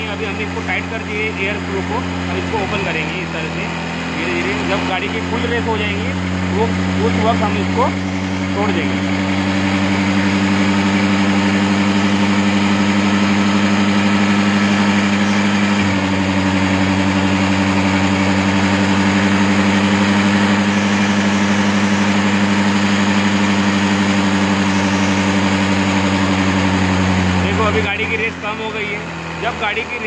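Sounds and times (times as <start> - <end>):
scooter engine idling: 0.0 - 30.0.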